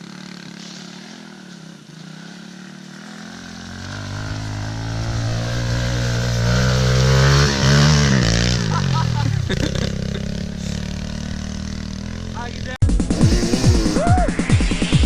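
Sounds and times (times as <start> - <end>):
small motorcycle engine: 0.0 - 14.1.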